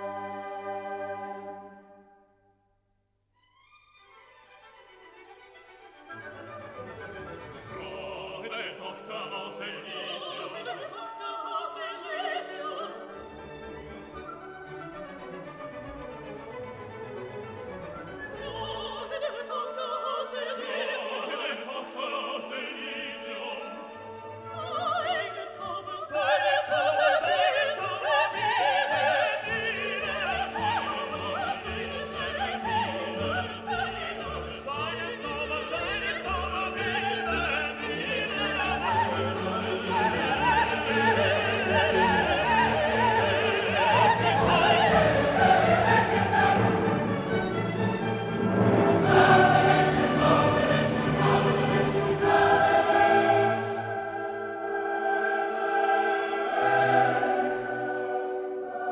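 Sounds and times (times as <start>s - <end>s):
orchestra with choir: 0.0s - 2.5s, 3.6s - 58.9s
operatic singing: 6.0s - 58.9s.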